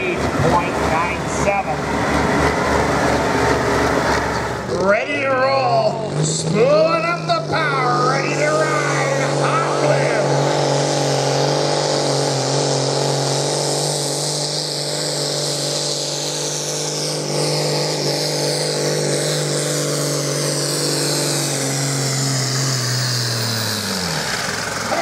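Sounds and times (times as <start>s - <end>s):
high turbo whine: 0.0s - 25.0s
tractor diesel engine under load: 0.0s - 25.0s.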